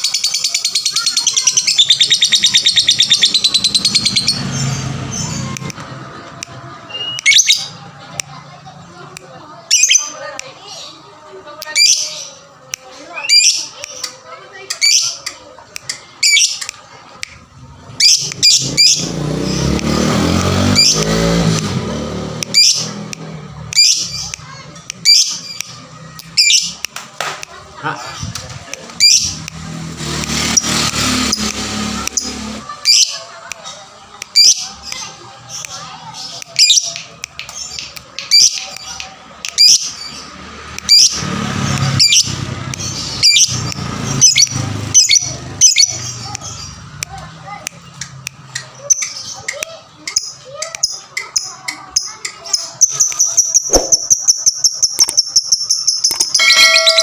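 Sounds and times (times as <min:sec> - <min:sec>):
high twittering chatter: 0:00.0 - 0:57.0.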